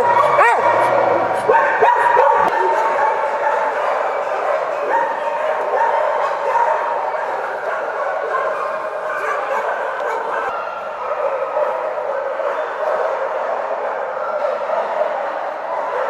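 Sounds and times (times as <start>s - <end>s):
dogs barking and whining: 0.0s - 16.0s.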